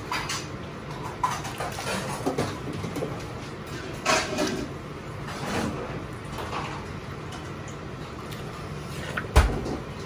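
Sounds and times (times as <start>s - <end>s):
water at a rolling boil: 0.0s - 10.0s.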